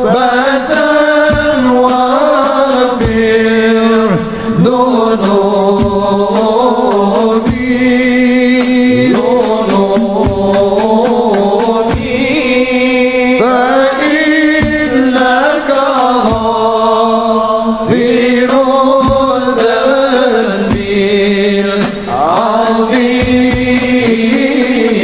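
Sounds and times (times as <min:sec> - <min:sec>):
drawn-out sung lines: 0:00.0 - 0:25.0
frame drum strokes: 0:00.1 - 0:16.7, 0:17.9 - 0:25.0.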